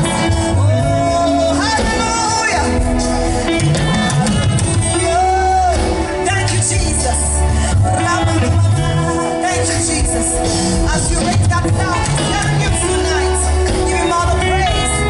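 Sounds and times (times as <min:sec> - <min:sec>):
instrumental backing with bass: 0:00.0 - 0:15.0
person singing: 0:00.0 - 0:15.0.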